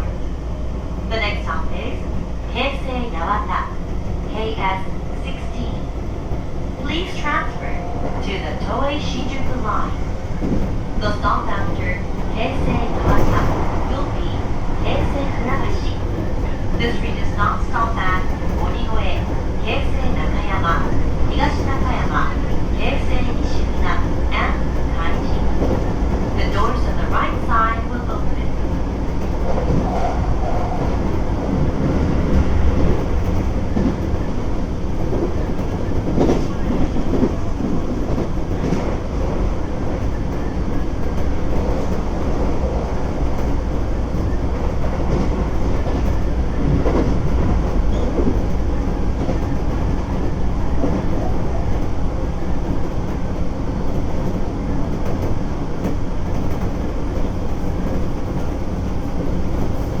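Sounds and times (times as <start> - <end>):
train wheels rumbling on rail: 0.0 - 60.0
rail-joint clicks: 5.3 - 59.9.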